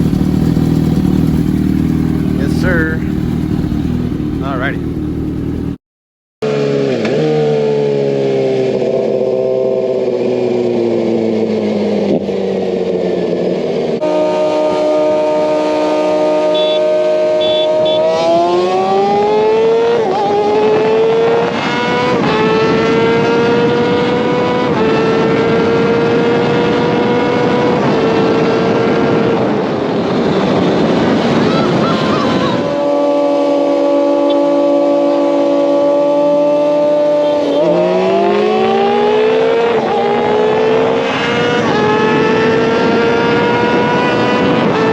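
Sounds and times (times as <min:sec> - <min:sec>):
motorcycle engine revving: 0:00.0 - 0:05.8, 0:06.4 - 0:44.9.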